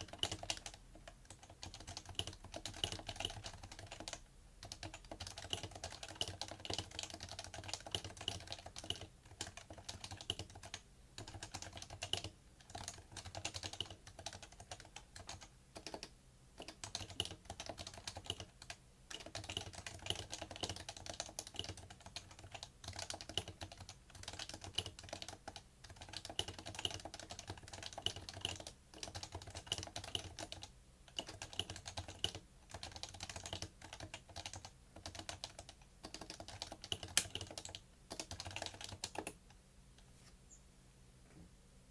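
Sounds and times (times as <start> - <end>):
fast keyboard typing: 0.0 - 39.4.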